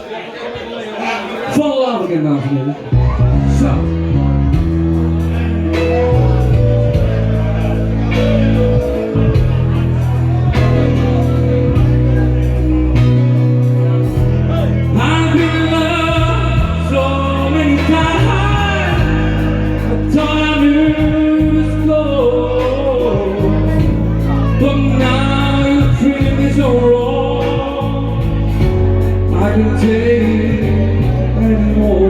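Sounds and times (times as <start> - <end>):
live song with bass: 2.9 - 32.0
gliding lead melody: 3.0 - 32.0.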